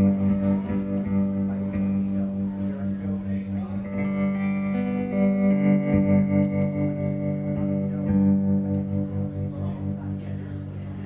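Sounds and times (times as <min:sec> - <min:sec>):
electric guitar chords with effects: 0:00.0 - 0:11.0.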